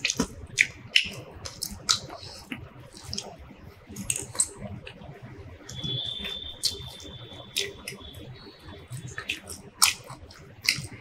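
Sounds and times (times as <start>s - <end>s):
fingers squelching in food: 0.0s - 8.2s, 8.8s - 11.0s
chewing and lip smacks: 0.0s - 11.0s.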